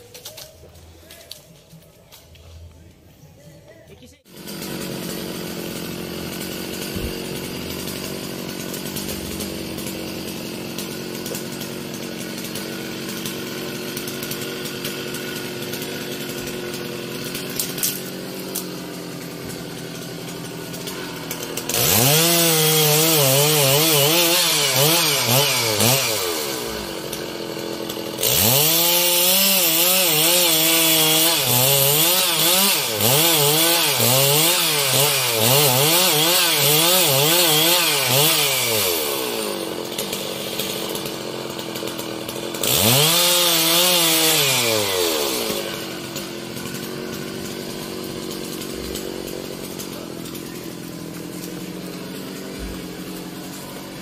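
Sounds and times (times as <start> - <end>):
chainsaw revving and cutting wood: 4.1 - 54.0
chainsaw idling: 4.2 - 54.0.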